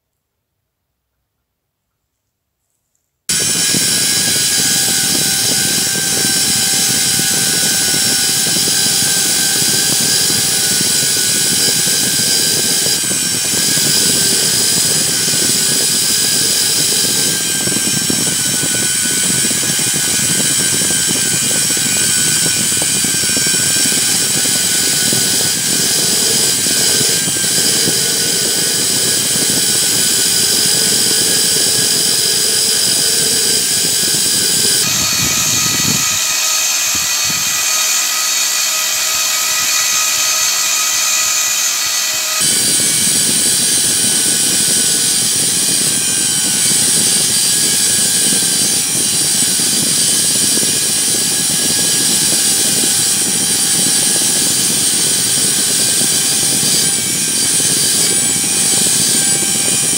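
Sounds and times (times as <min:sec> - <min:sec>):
drill with wire brush scrubbing metal: 0:03.3 - 0:59.9.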